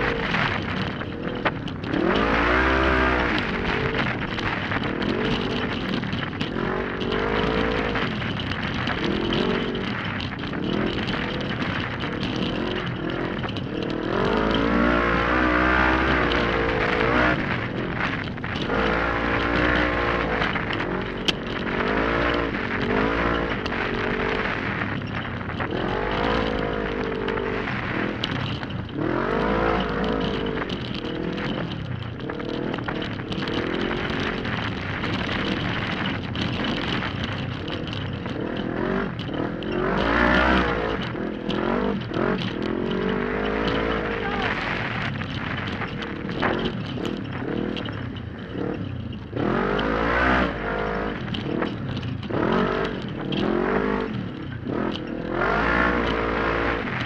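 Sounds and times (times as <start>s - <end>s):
engine revving: 0.0s - 57.0s
vehicle rattling over rough dirt: 0.0s - 57.0s.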